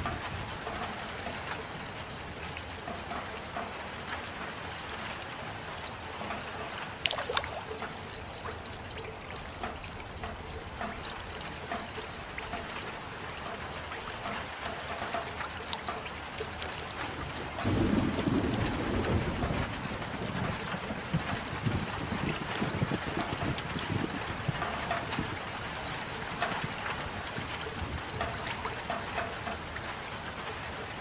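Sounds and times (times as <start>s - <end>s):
drips and trickling water: 0.0s - 31.0s
steady rain falling: 0.0s - 31.0s.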